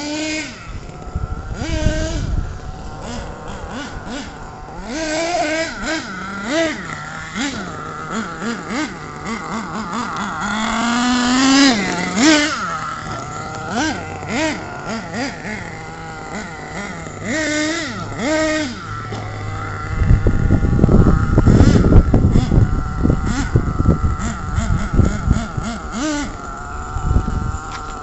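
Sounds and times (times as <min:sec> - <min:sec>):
toy car motor revving: 0:00.0 - 0:28.0.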